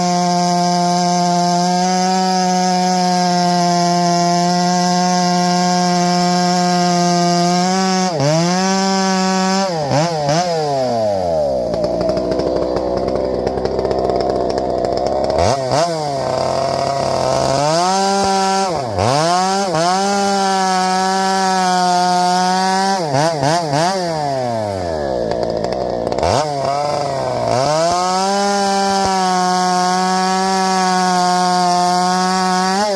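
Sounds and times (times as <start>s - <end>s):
chainsaw revving and idling: 0.0s - 32.9s.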